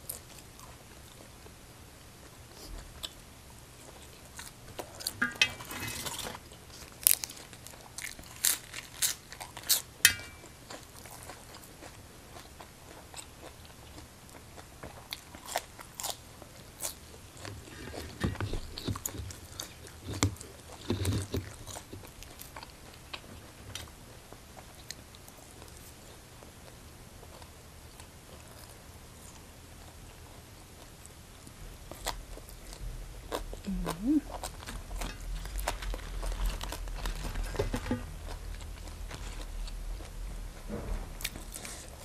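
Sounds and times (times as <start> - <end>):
person chewing and crunching food: 0.0 - 1.6, 2.2 - 40.4.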